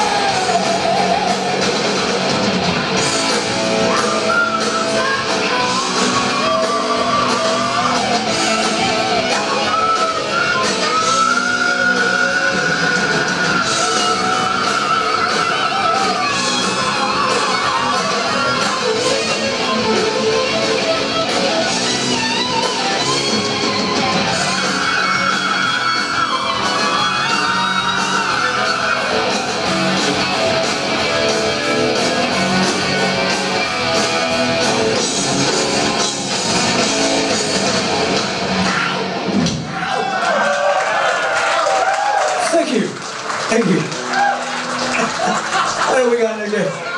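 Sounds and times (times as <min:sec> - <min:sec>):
bending electric guitar notes: 0:00.0 - 0:39.4
heavy metal band playing live: 0:00.0 - 0:39.9.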